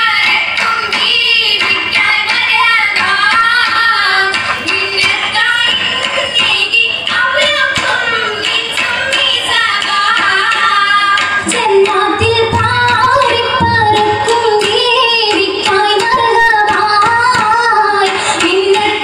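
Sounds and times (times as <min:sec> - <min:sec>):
musical accompaniment: 0:00.0 - 0:19.0
woman singing: 0:00.0 - 0:19.0.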